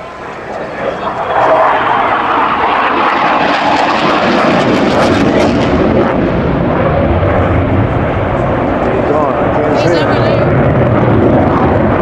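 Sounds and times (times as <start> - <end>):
military jet flying low past: 0.0 - 12.0.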